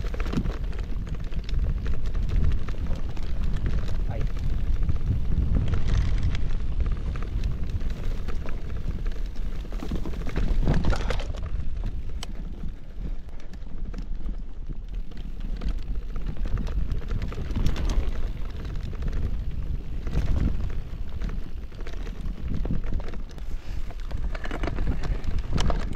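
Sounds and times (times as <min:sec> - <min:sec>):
bike rattling and clattering: 0:00.0 - 0:25.9
bike tyres on stony trail: 0:00.0 - 0:25.9
wind rumbling on microphone: 0:00.0 - 0:25.9.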